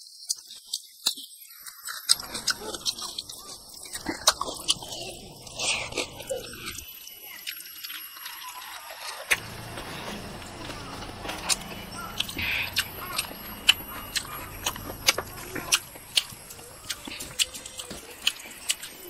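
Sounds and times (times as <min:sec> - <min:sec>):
wet chewing and lip smacking: 0:00.2 - 0:19.0.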